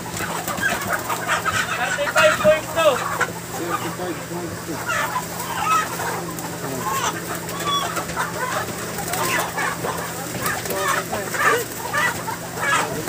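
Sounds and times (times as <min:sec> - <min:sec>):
chickens squawking and clucking: 0:00.0 - 0:13.0
steady low hum: 0:00.0 - 0:13.0.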